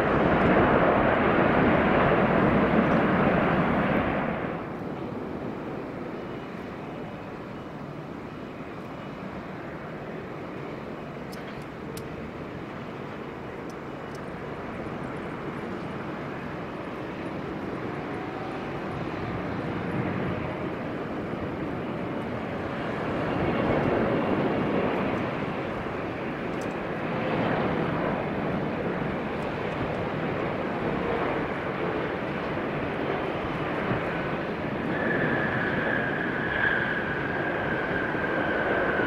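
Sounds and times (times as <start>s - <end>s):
airliner engine rumble: 0.0s - 39.0s.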